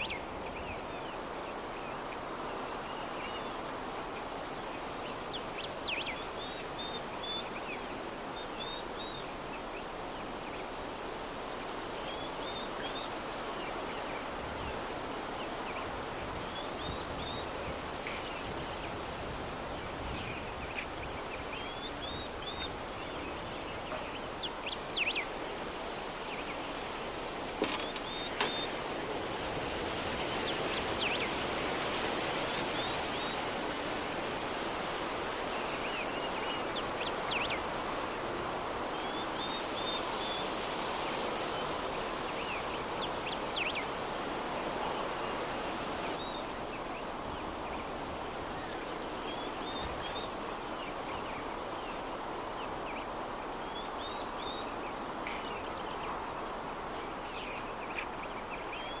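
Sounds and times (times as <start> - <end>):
soft breeze: 0.0 - 59.0.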